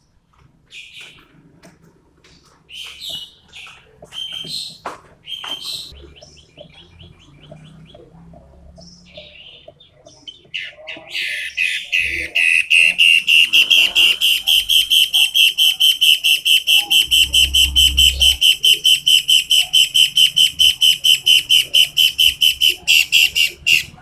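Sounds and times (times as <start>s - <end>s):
bird singing sharp calls: 2.7s - 24.0s.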